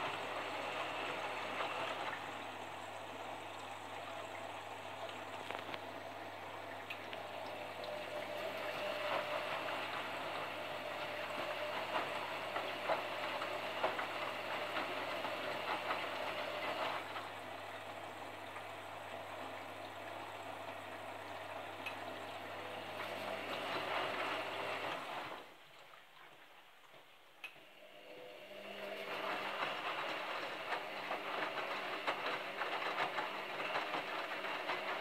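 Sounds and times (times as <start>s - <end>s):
washing machine drum sloshing: 0.0s - 26.4s, 28.6s - 35.0s.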